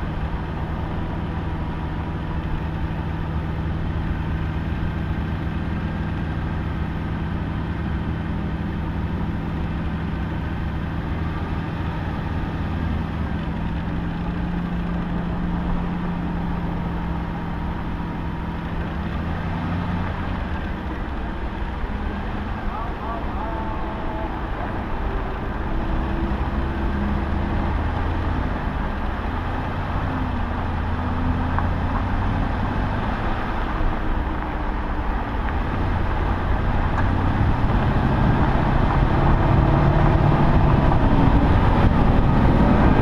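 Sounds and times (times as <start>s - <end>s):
car engine low drone: 0.0s - 43.0s.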